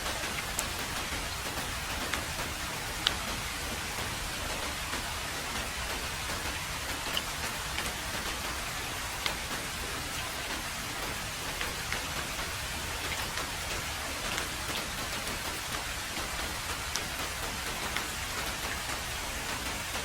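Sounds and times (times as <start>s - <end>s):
heavy rain on a road: 0.0s - 20.0s
raindrops ticking: 0.0s - 20.0s.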